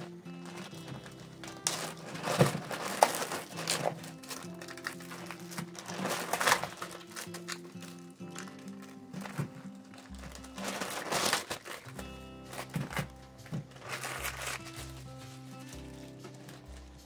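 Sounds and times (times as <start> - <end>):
background music: 0.0 - 17.0
packaging crinkling and rustling: 0.0 - 17.0.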